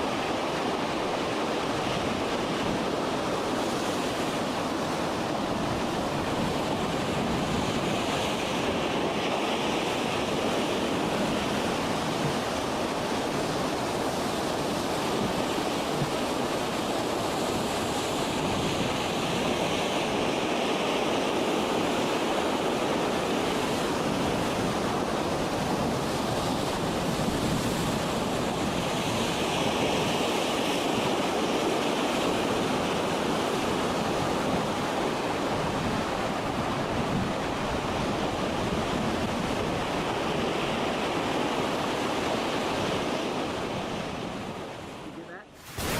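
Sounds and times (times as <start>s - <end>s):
heavy sea rushing: 0.0s - 45.9s
wind: 0.0s - 45.9s.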